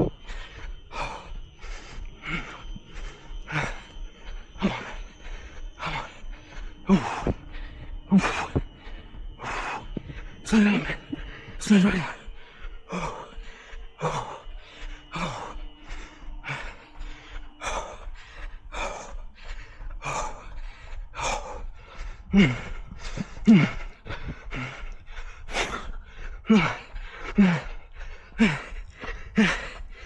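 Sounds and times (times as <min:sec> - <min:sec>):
hard rapid breathing with gasps: 0:00.0 - 0:30.0.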